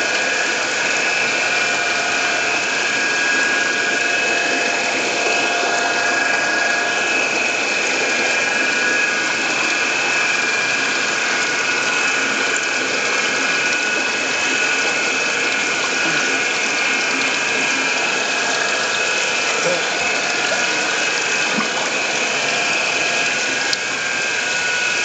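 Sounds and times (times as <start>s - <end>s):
mechanical whirring underwater: 0.0s - 25.0s.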